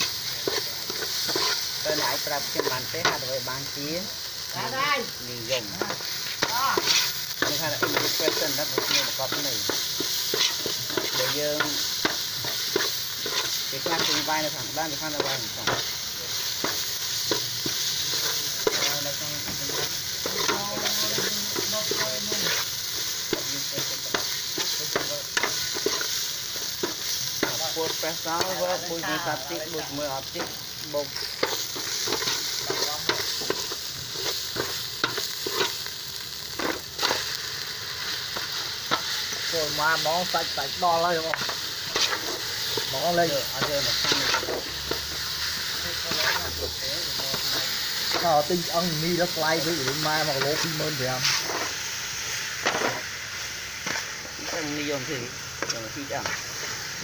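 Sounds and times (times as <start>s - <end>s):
paste sizzling in oil: 0.0s - 57.0s.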